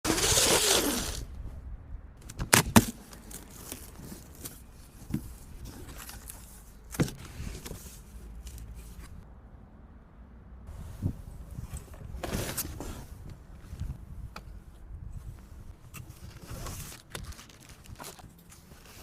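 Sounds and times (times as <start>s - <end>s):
low steady background rumble: 0.1s - 19.0s.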